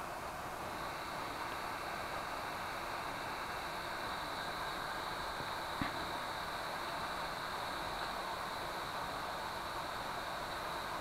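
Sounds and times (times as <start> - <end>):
hot air gun hissing: 0.0 - 11.0.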